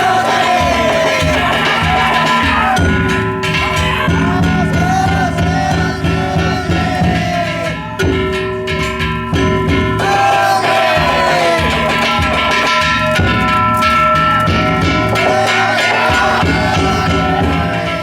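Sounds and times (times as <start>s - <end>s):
ringing gongs: 0.0s - 18.0s
taiko drum beats: 0.0s - 18.0s
voices calling: 0.0s - 18.0s.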